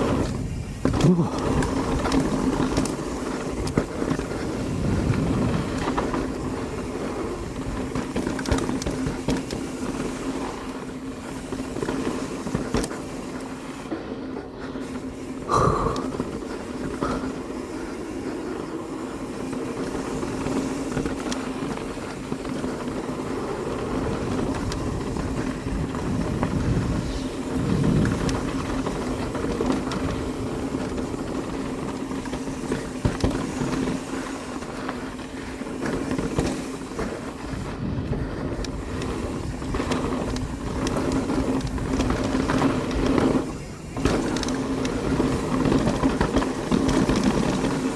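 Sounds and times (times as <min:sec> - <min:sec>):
bike knocks and rattles: 0:00.0 - 0:47.9
tyres rumbling on dirt: 0:00.0 - 0:47.9.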